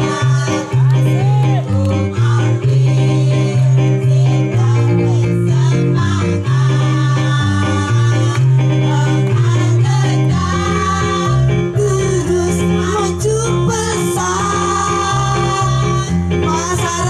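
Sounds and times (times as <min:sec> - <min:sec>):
women's choir singing: 0:00.0 - 0:17.0.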